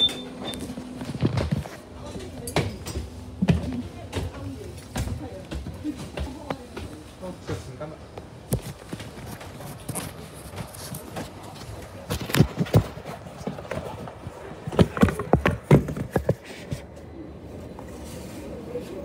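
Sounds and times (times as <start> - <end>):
footsteps on tram floor: 0.0 - 17.0
steady background hum: 0.0 - 19.0.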